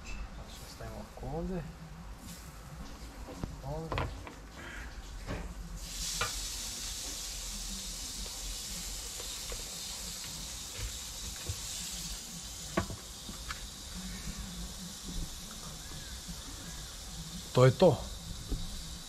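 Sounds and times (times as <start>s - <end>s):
meat sizzling on a grill: 0.5s - 19.0s.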